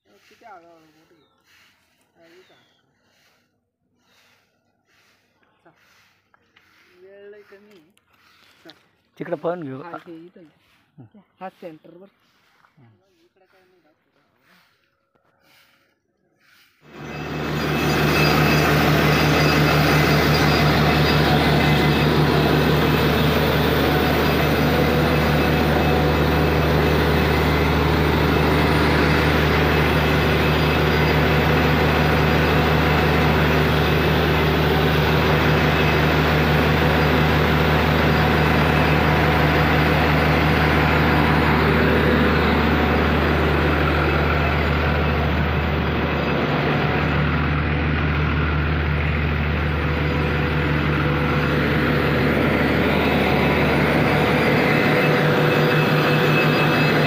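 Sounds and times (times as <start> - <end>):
drilling rig engine drone: 4.0 - 8.4, 11.5 - 57.0.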